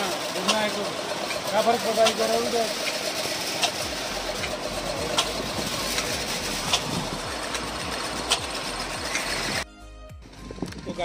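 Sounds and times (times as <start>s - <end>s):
amusement ride mechanical rumble: 0.0s - 11.0s.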